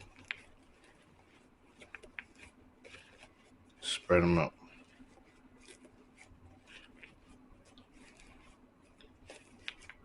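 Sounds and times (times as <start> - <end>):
shoelaces rustling and clicking: 0.0 - 10.0.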